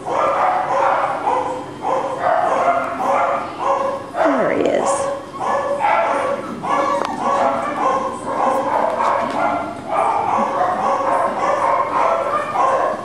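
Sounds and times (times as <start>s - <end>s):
puppy yapping: 0.1s - 13.0s.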